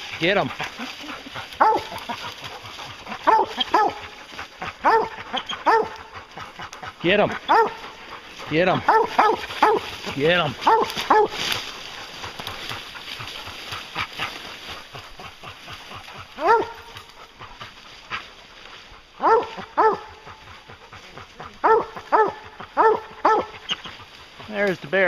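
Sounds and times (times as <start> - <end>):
hounds barking: 0.0 - 25.0.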